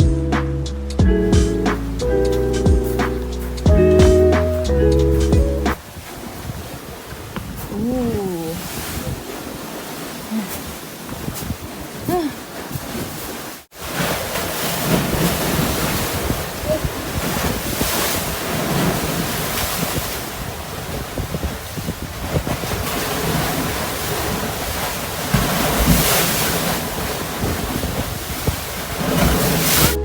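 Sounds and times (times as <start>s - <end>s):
wind buffeting microphone: 1.0s - 30.0s
sea waves washing on beach: 1.2s - 30.0s.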